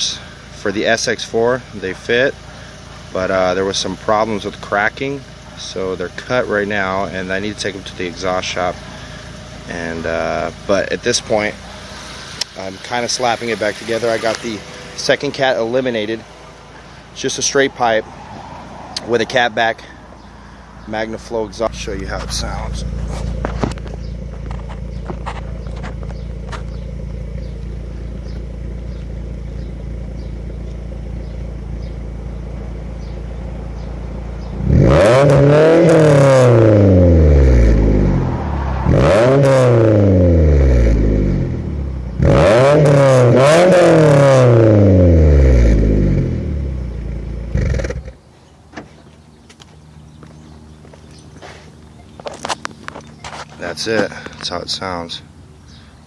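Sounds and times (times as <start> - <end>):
car engine revving: 0.0 - 48.5
car engine idling: 0.0 - 56.0.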